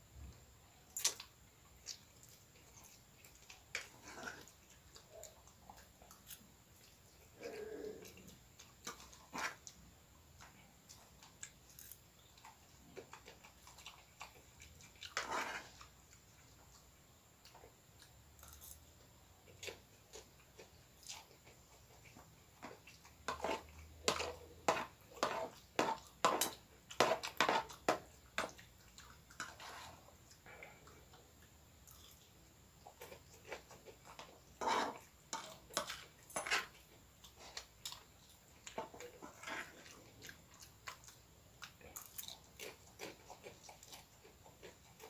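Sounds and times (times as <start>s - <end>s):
person chewing noodles: 0.9s - 45.0s.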